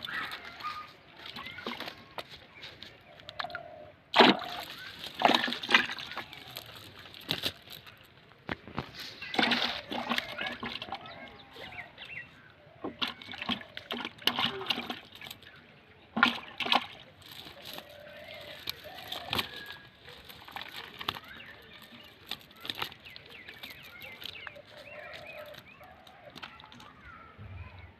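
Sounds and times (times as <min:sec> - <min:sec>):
water splashing and sloshing: 0:00.0 - 0:27.9.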